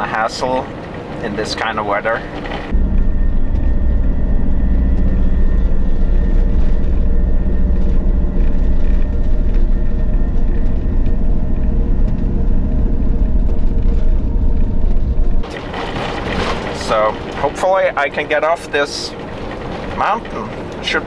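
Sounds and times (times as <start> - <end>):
engine and road rumble: 0.0 - 21.0
faint engine hum: 0.0 - 21.0.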